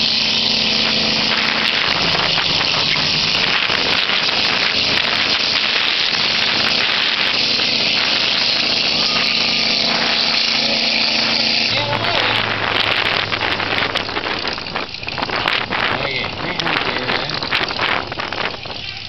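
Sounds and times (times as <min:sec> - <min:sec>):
vehicle engines running: 0:00.0 - 0:19.0
wind buffeting microphone: 0:00.0 - 0:19.0.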